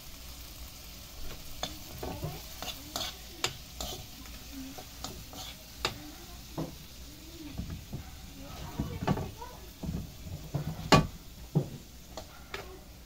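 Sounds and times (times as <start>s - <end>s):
oil sizzling: 0.0s - 13.0s
spoon scraping a wok: 1.3s - 12.8s.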